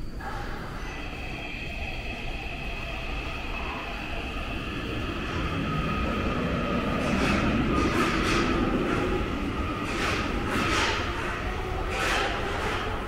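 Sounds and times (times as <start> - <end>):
low train drive tone: 0.0 - 13.0
train drive whine: 0.0 - 13.0
train running noise: 0.0 - 13.0.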